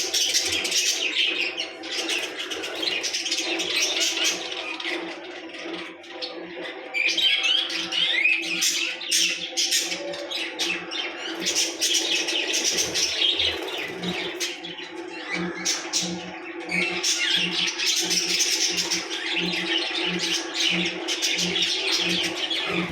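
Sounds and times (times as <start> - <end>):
lovebirds chattering: 0.0 - 22.9.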